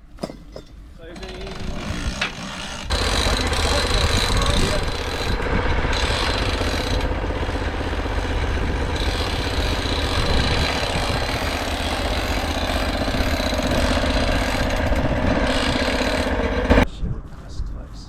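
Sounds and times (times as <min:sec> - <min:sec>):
sawmill petrol engine running: 0:01.0 - 0:16.8.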